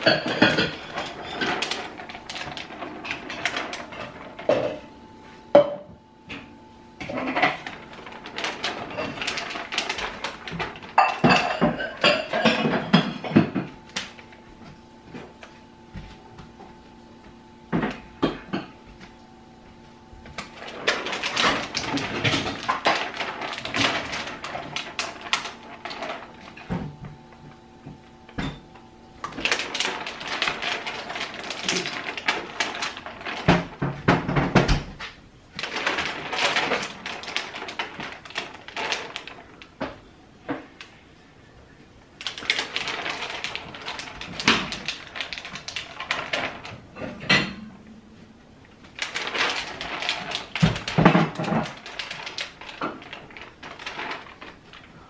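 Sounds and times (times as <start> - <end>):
faint steady hum: 0.0 - 55.0
plastic sheet rustling and crinkling: 0.0 - 55.0.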